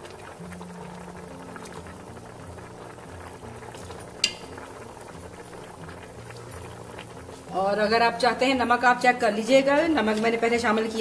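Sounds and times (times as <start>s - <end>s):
soup bubbling in a pot: 0.0s - 11.0s.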